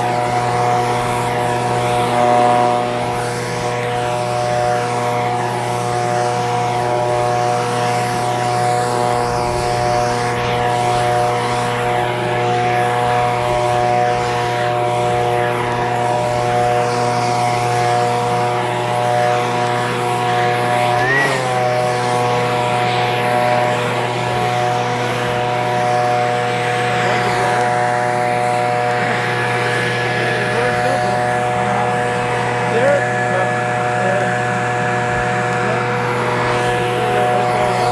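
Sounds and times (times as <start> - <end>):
leaf blower engine running: 0.0 - 37.9.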